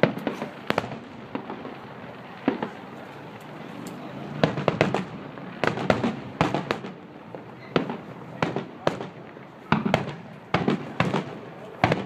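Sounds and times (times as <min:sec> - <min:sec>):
firework bang: 0:00.0 - 0:12.0
fireworks cracking: 0:00.0 - 0:12.0.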